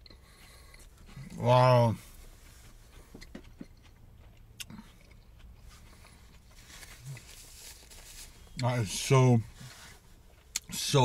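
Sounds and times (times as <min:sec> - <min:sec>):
faint chewing with mouth clicks: 0:00.0 - 0:11.0.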